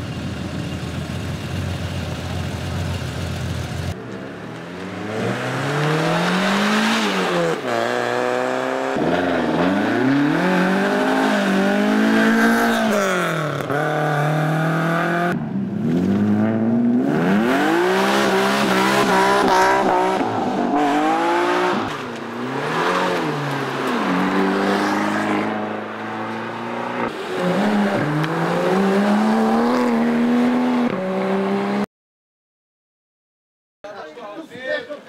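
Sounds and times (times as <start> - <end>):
car engines accelerating hard: 0.1 - 31.9.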